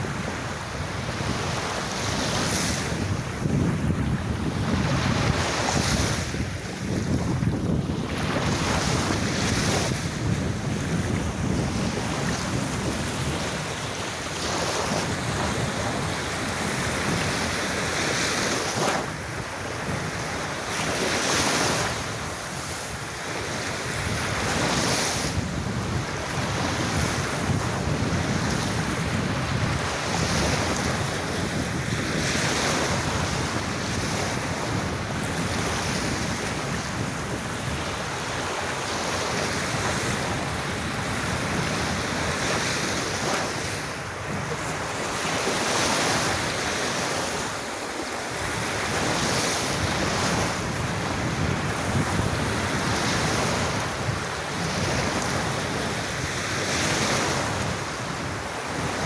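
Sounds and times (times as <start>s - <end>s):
sea waves washing onto beach: 0.0s - 59.0s
wind noise on microphone: 0.0s - 59.0s.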